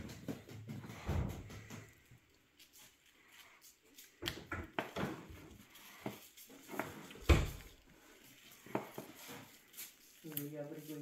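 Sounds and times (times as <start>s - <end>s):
meat handled on a board: 0.0s - 11.0s.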